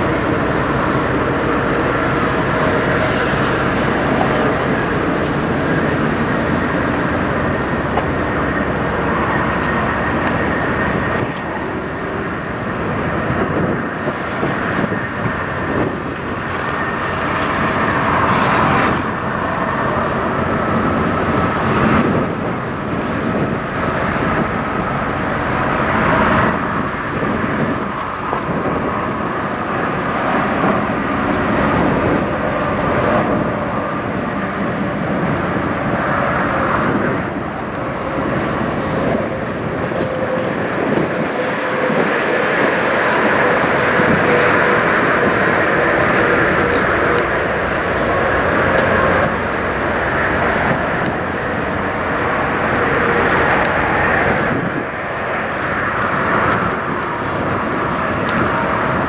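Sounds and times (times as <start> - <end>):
diesel truck engines idling: 0.0 - 59.0.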